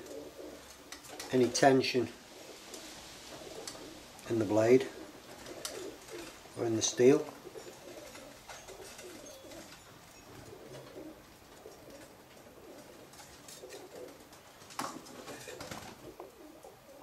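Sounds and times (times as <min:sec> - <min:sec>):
bird cooing: 0:00.0 - 0:01.3, 0:02.3 - 0:04.1, 0:04.8 - 0:17.0.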